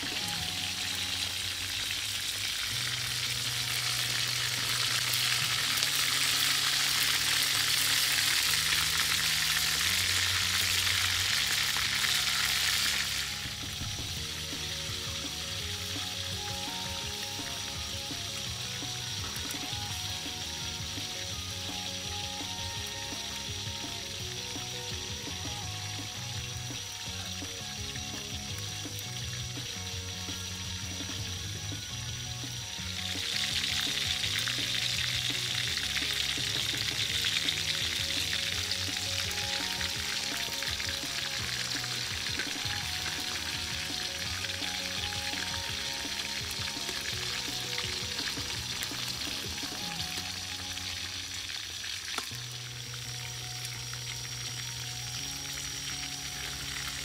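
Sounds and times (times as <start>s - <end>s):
background music: 0.0s - 57.0s
oil sizzling in a wok: 0.0s - 57.0s.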